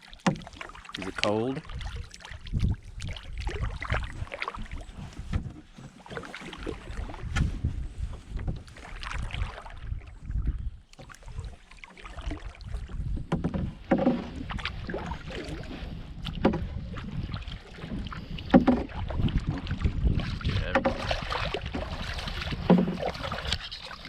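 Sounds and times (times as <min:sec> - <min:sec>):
paddle strokes in water: 0:00.0 - 0:24.0
wind rumble on microphone: 0:01.6 - 0:24.0.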